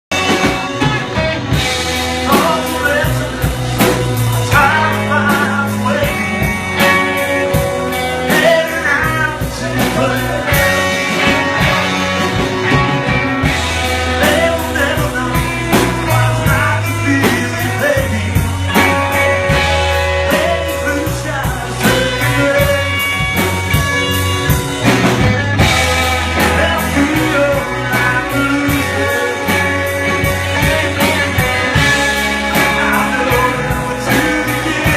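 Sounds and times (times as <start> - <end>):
bass guitar: 0.0 - 34.9
drums keeping a steady beat: 0.1 - 34.9
electric guitar: 0.1 - 34.9.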